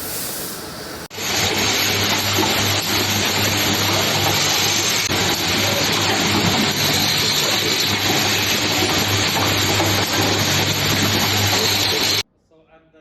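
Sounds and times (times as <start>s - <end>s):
machines hissing: 0.0s - 12.2s
machines humming: 0.5s - 12.2s.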